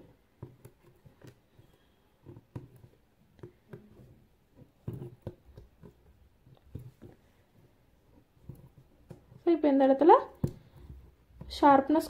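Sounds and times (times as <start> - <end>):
needle tapping and scratching fabric: 0.0 - 12.0.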